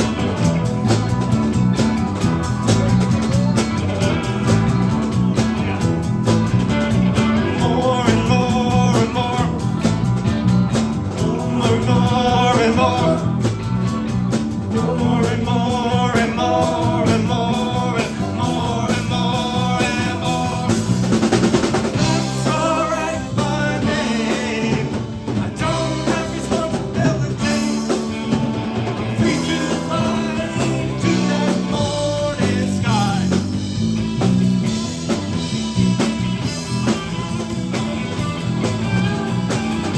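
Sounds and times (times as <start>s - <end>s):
rock band instrumental: 0.0s - 39.9s.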